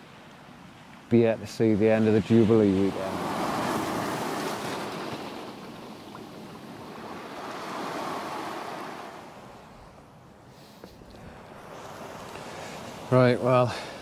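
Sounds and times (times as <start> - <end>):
surf washing over rocks: 0.0 - 14.0.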